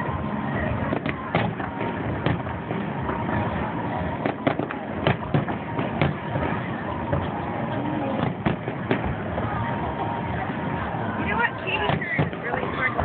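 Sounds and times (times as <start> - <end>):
distant fireworks bangs: 0.7 - 10.5, 11.7 - 13.0.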